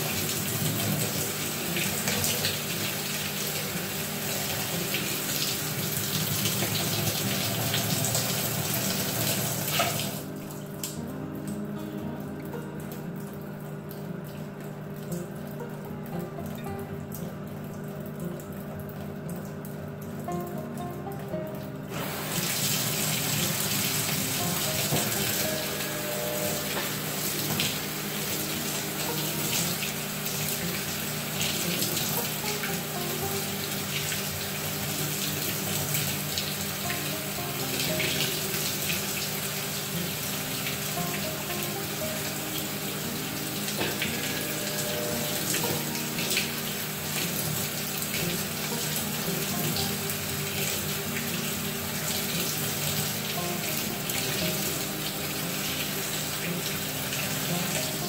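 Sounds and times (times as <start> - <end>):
water running into washing machine: 0.0 - 58.0.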